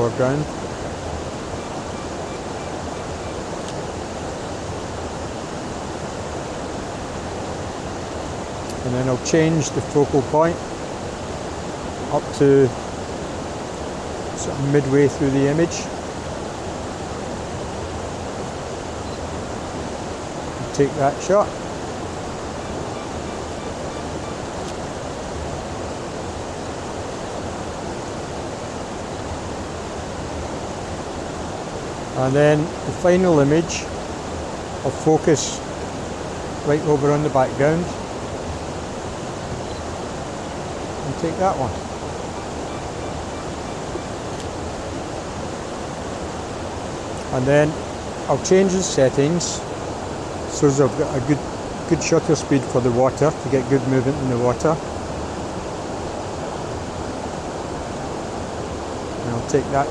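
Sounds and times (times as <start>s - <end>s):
water rushing over rocks: 0.0s - 59.9s.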